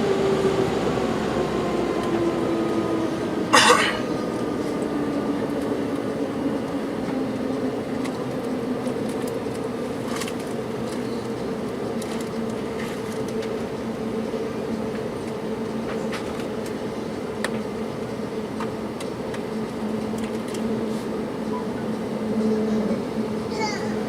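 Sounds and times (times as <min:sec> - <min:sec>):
jet engines humming: 0:00.0 - 0:24.0.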